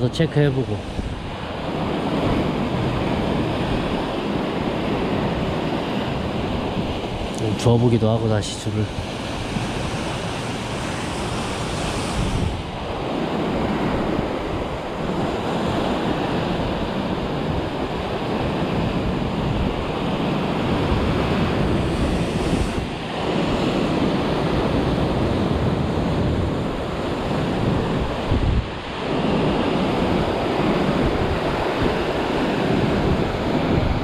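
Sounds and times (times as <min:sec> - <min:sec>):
waves washing over rocks: 0:00.0 - 0:34.0
wind rumbling on microphone: 0:00.0 - 0:34.0.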